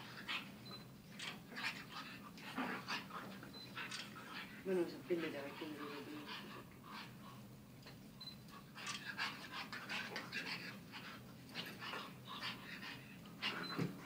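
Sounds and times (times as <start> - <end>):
puppies breathing noisily: 0.0 - 14.0.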